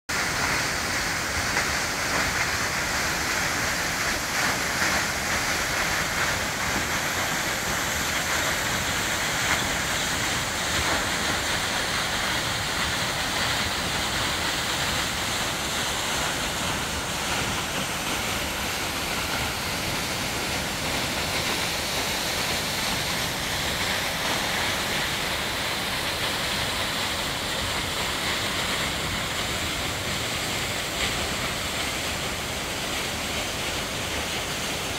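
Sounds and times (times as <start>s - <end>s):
waterfall rushing onto rocks: 0.1s - 34.9s.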